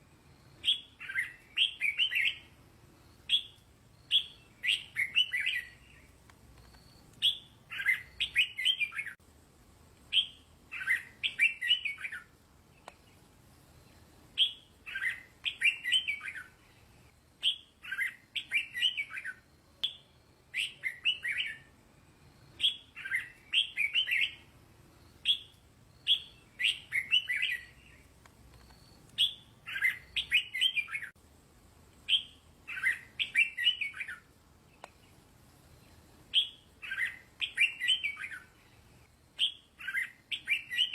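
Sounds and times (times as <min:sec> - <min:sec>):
bulbul singing: 0:00.4 - 0:09.2, 0:10.1 - 0:13.2, 0:13.9 - 0:16.6, 0:17.4 - 0:21.7, 0:22.4 - 0:31.2, 0:32.0 - 0:38.8, 0:39.4 - 0:40.9.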